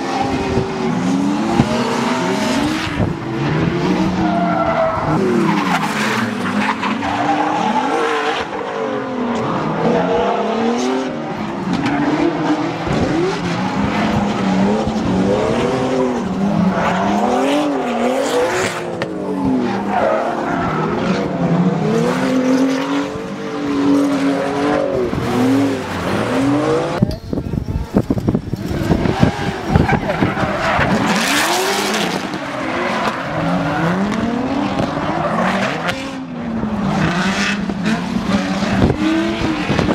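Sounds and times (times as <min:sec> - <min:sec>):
car engine revving: 0:00.0 - 0:27.1, 0:28.0 - 0:39.9.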